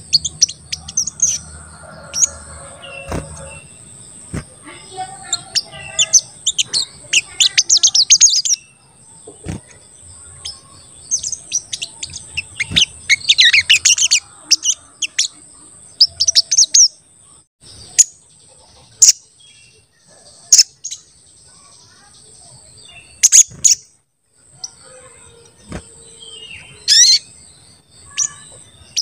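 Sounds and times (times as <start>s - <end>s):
sunbird high sharp chirps: 0.0s - 17.0s, 19.0s - 23.9s, 24.5s - 29.0s.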